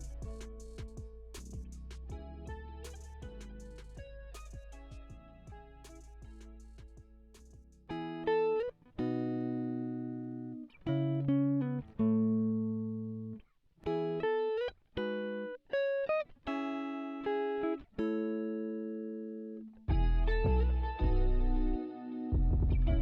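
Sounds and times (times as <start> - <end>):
plucked guitar melody: 0.0 - 23.0.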